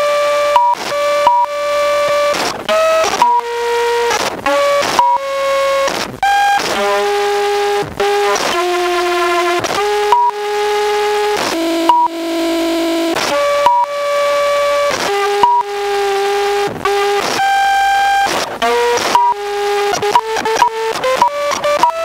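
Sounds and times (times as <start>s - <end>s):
buzzy synthesizer tones: 0.0s - 22.0s.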